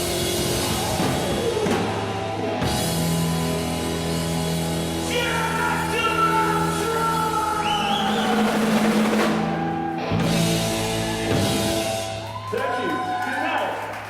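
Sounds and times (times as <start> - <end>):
punk rock band playing: 0.0 - 12.5.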